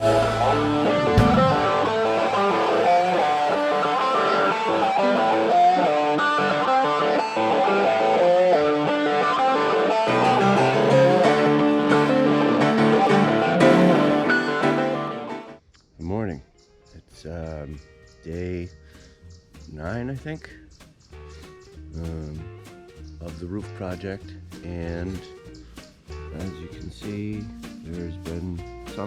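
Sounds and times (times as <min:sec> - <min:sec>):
guitar music with bass line: 0:00.0 - 0:15.6, 0:17.8 - 0:29.0.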